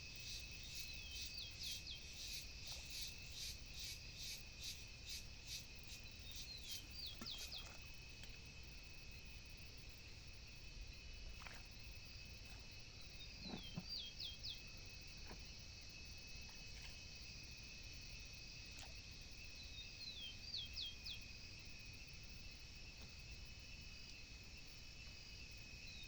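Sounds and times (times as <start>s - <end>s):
faint outdoor noise: 0.0s - 26.0s.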